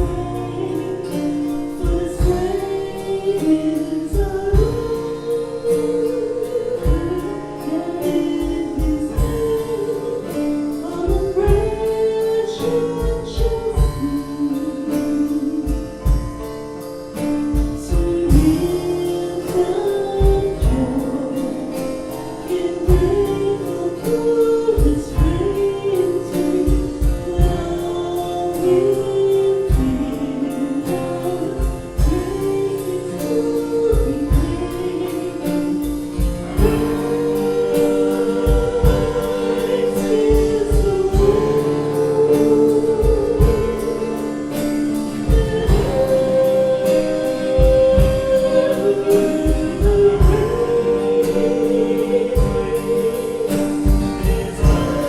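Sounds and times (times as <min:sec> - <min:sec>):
song with sung melody: 0:00.0 - 0:55.0.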